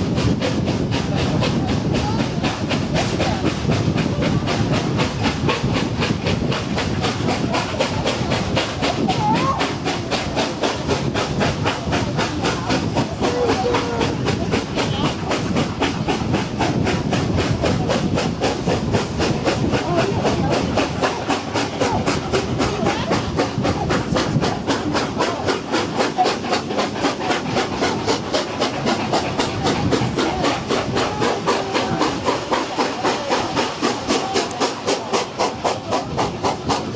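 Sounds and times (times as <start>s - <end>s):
steam hissing: 0.0s - 36.9s
steam locomotive exhaust beats: 0.0s - 36.9s.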